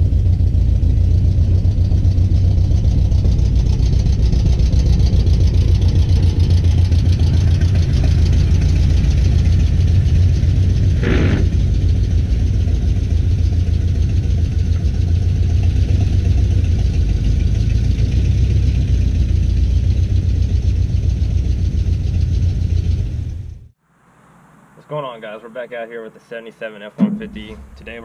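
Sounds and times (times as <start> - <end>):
pickup truck engine rumbling: 0.0 - 28.0.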